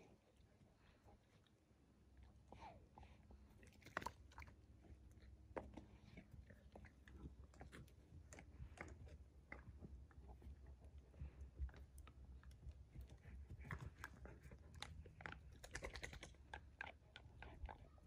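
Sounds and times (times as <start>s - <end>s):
puppy gnawing a bone: 0.0s - 18.0s.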